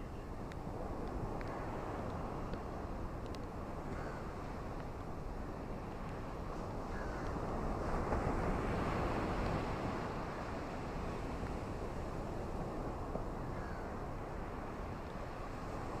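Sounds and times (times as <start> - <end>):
ocean waves washing onto beach: 0.0 - 16.0.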